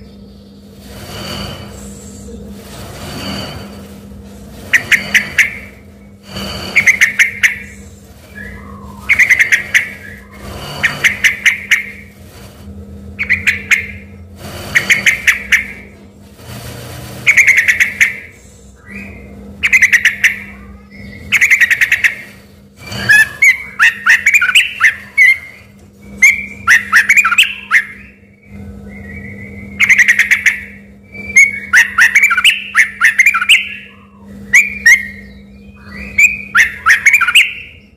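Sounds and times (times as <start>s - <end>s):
steady low hum: 0.0s - 37.9s
bird singing chattering notes: 4.7s - 12.1s, 13.2s - 15.9s, 17.2s - 37.9s.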